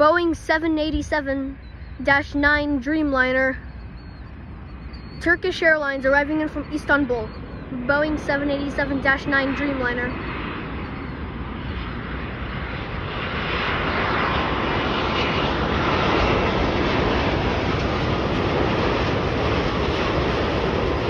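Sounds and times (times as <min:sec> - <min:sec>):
jet airliner engine rumble: 0:00.0 - 0:21.0.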